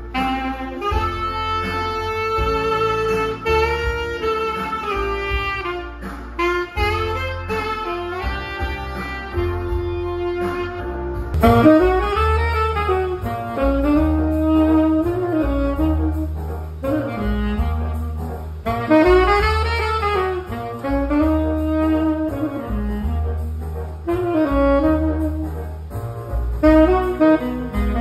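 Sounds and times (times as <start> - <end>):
saxophone playing jazzy melody: 0.0 - 28.0
steady bass accompaniment: 0.0 - 28.0.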